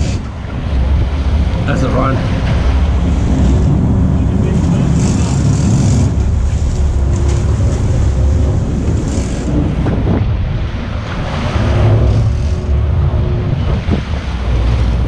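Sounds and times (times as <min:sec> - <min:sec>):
low boat engine drone: 0:00.0 - 0:15.0
water churning along hull: 0:00.0 - 0:15.0
wind rushing over microphone: 0:00.0 - 0:15.0.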